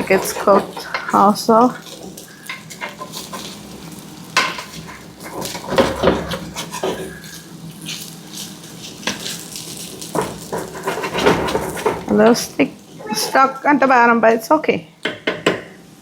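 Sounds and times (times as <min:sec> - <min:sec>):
utensil scraping a frying pan: 0:00.0 - 0:14.1
food sizzling: 0:00.0 - 0:16.0.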